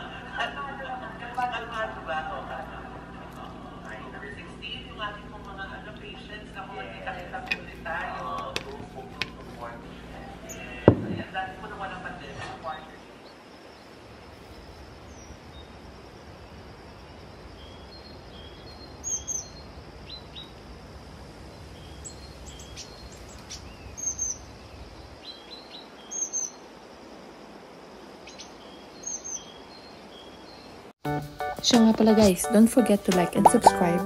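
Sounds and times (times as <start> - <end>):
birds chirping: 0.0 - 15.8, 17.1 - 20.6, 21.5 - 26.9, 28.0 - 30.9, 31.7 - 34.0
steady background hiss: 0.0 - 31.0.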